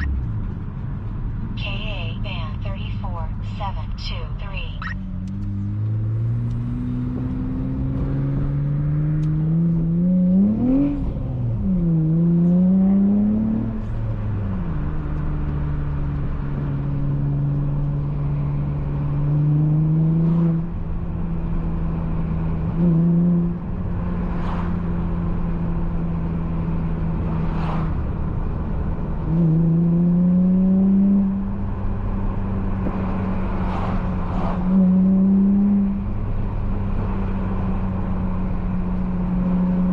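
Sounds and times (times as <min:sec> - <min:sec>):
car engine revving on the road: 0:00.0 - 0:39.9.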